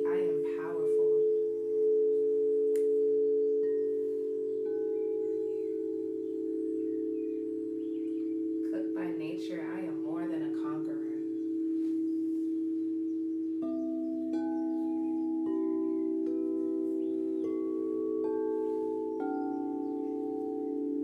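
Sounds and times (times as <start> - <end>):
singing bowls ringing: 0.0 - 21.0.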